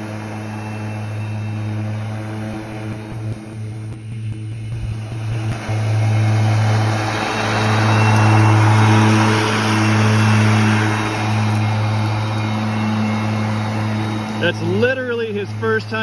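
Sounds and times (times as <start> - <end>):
electric mower humming: 0.0 - 16.0
rushing noise of cut grass: 0.0 - 16.0.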